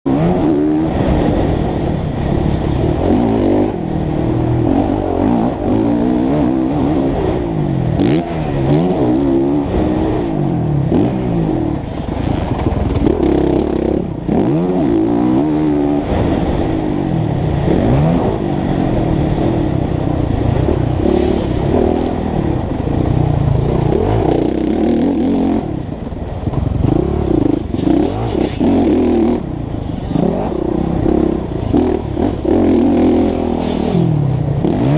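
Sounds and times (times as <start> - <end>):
motocross engine revving: 0.1 - 34.9.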